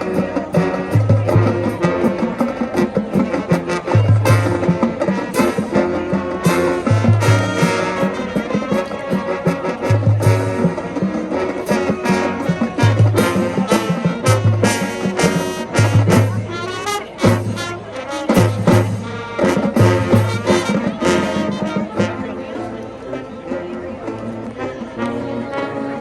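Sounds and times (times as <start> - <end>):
drums keeping steady beat: 0.0 - 23.8
marching band brass tune: 0.0 - 26.0.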